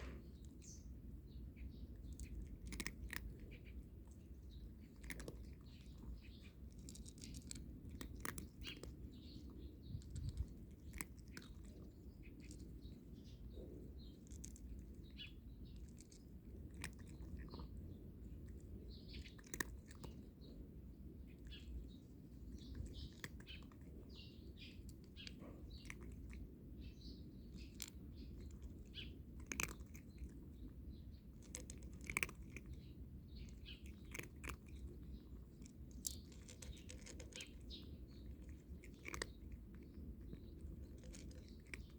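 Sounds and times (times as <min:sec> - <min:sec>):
cat crunching dry kibble: 0:00.0 - 0:41.9.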